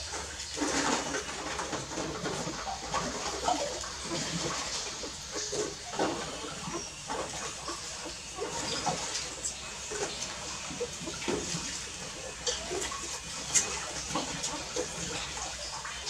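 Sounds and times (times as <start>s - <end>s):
puppies suckling: 0.6s - 16.0s.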